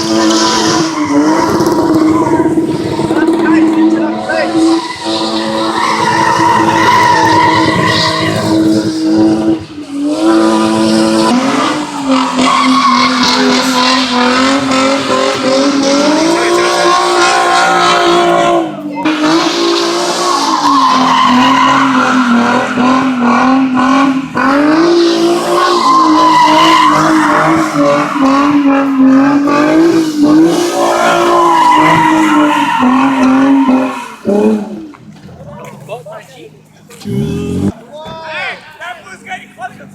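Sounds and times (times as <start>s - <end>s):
car engine revving hard: 0.0s - 35.0s
car tyres squealing: 0.0s - 39.9s.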